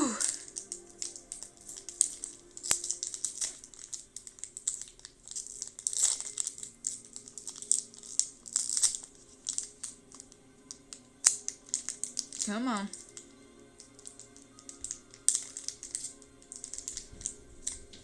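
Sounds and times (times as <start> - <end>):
foil wrapper crinkling and tearing: 0.1 - 18.0.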